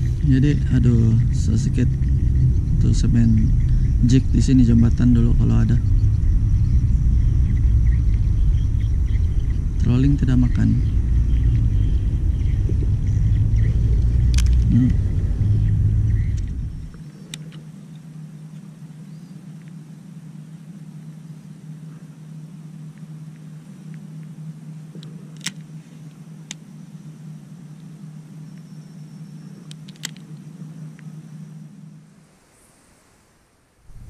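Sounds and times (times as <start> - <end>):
low motor hum: 0.0 - 32.5.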